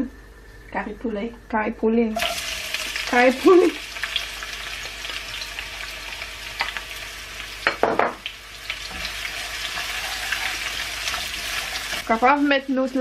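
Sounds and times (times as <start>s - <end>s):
onions sizzling in hot oil: 2.2s - 13.0s.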